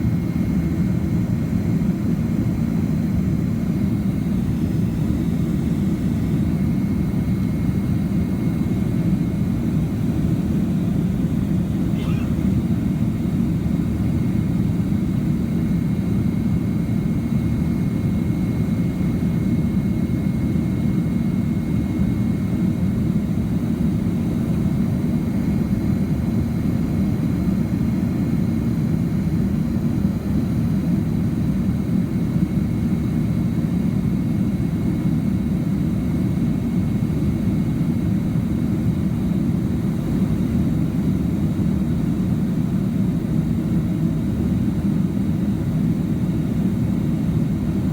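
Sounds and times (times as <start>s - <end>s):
jet engine cabin roar: 0.0s - 47.9s.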